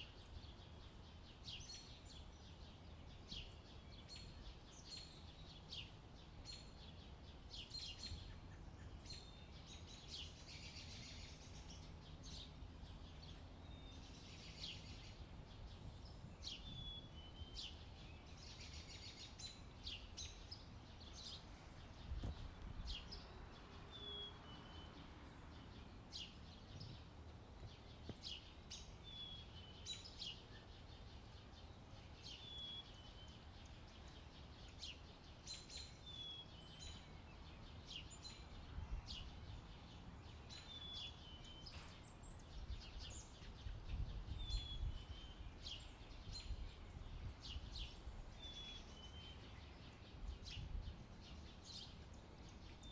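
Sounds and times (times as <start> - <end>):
low rumble of wind: 0.0 - 52.9
small birds chirping: 0.0 - 52.9.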